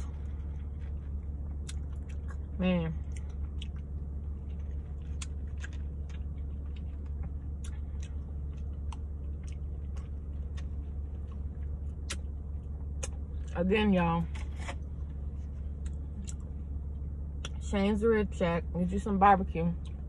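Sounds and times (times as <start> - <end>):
person chewing: 0.0 - 13.6, 14.3 - 17.6
steady low hum: 0.0 - 20.0.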